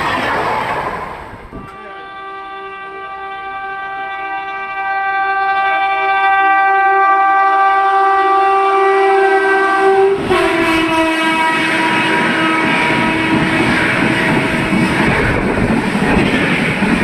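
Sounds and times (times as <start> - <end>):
train wheels rumbling on rails: 0.0 - 17.0
train horn long blast: 1.6 - 15.5.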